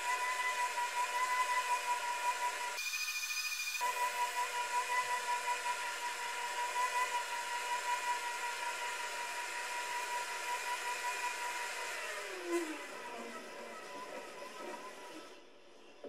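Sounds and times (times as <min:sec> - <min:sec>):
metal lathe cutting steel: 0:00.0 - 0:15.4.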